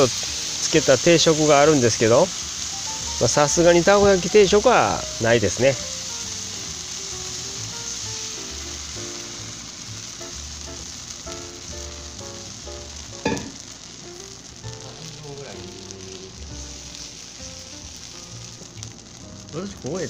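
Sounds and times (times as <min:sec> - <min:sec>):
batter sizzling in pan: 0:00.0 - 0:20.0.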